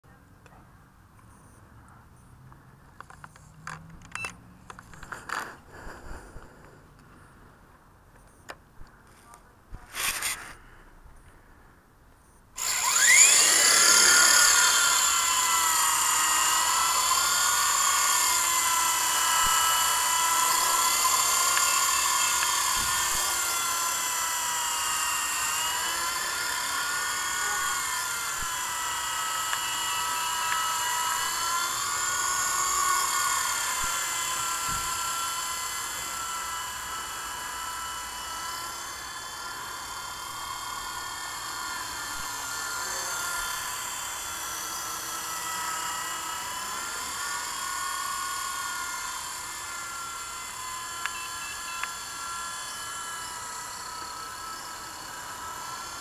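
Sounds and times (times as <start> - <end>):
rc helicopter motor whining: 3.0 - 7.2, 9.8 - 10.7, 12.6 - 56.0.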